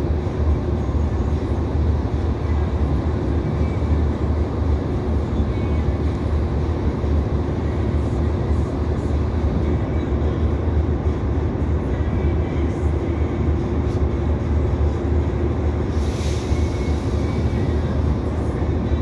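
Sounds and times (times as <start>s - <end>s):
diesel railcar engine rumble: 0.0s - 19.0s.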